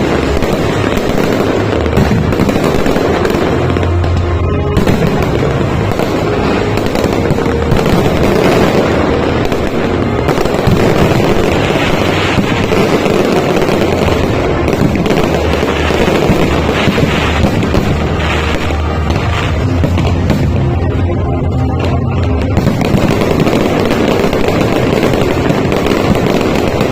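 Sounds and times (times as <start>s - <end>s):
background music: 0.0s - 26.9s
fireworks bangs and crackles: 0.0s - 26.9s.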